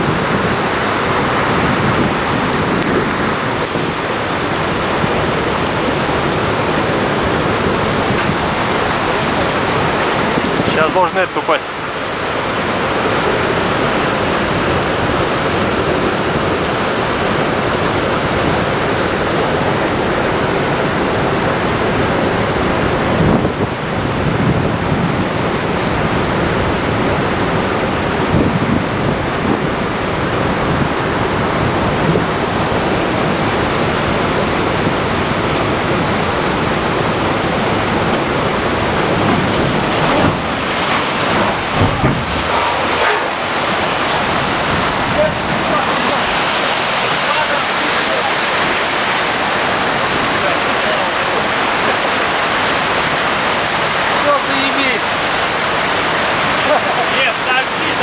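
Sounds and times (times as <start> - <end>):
water rushing through spillway: 0.0 - 58.0.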